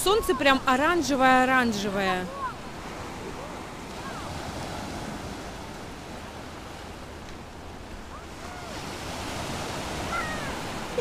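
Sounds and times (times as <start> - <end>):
waves breaking on pebble beach: 0.2 - 11.0.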